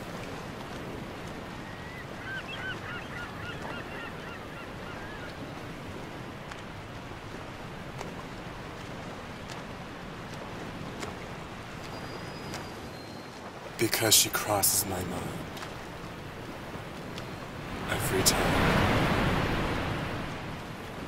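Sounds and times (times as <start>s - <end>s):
ocean surf: 0.0s - 21.0s.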